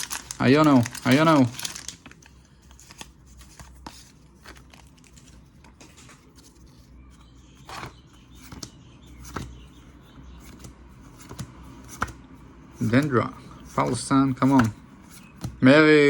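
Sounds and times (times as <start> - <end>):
trading cards rustling and clicking: 0.0 - 15.6.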